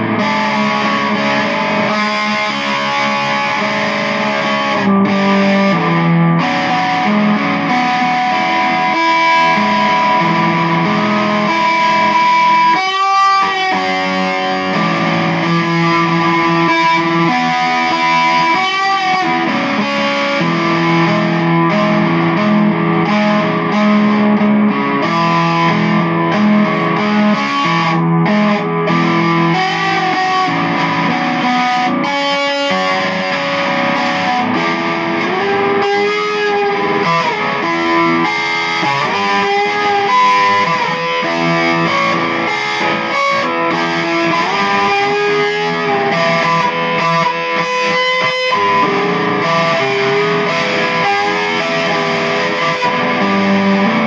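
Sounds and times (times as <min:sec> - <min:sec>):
electric guitar with effects: 0:00.0 - 0:54.0.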